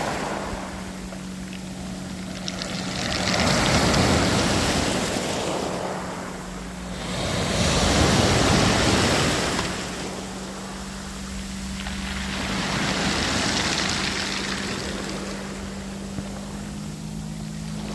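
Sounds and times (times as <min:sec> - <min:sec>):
waves breaking on shore: 0:00.0 - 0:17.9.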